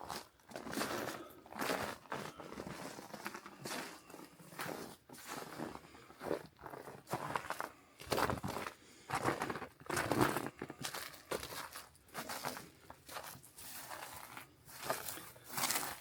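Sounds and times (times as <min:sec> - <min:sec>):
footsteps crunching through snow: 0:00.1 - 0:16.0.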